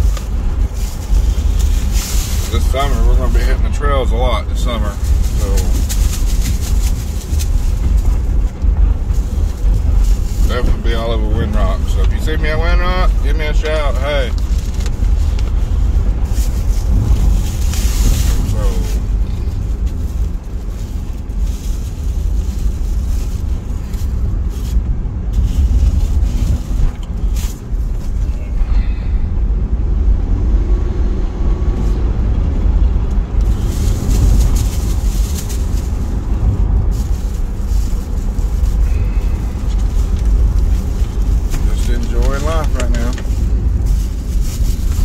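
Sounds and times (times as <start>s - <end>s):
road hiss: 0.0s - 29.7s, 33.2s - 45.0s
car engine and tyre rumble: 0.0s - 45.0s.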